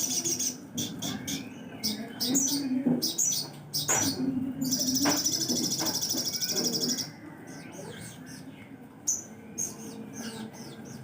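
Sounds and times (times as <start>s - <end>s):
songbird chirps and trill: 0.0s - 11.0s.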